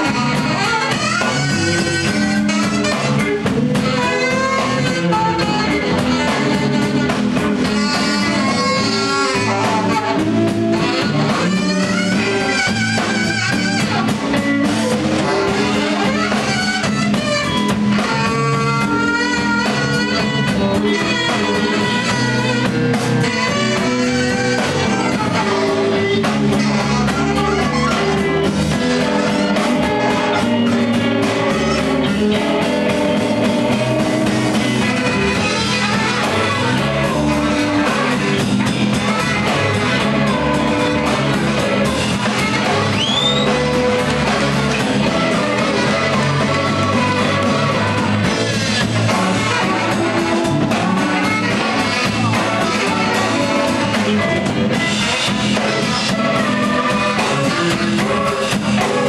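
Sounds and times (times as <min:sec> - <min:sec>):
blues band playing live: 0:00.0 - 0:59.0.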